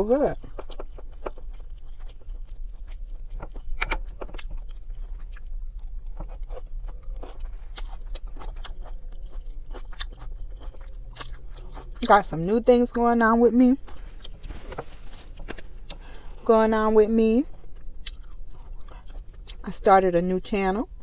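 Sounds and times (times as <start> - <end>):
steady low hum: 0.0 - 21.0
person chewing food: 0.1 - 12.1, 13.7 - 16.4, 17.5 - 19.6.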